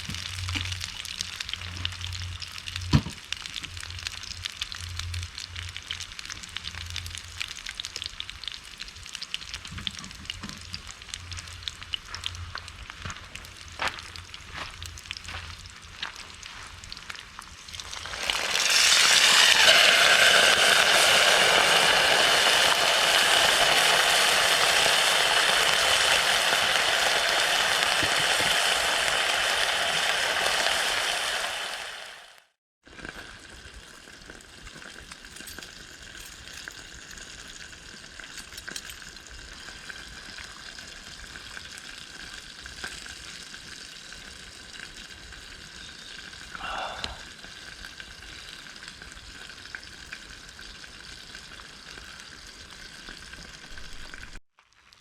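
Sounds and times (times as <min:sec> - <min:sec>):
food sizzling in frying pan: 0:00.0 - 0:55.0.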